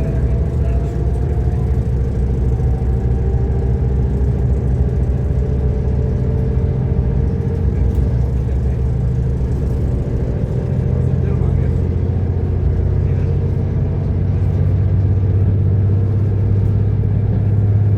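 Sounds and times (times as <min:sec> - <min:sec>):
diesel railcar engine rumble: 0:00.0 - 0:17.9.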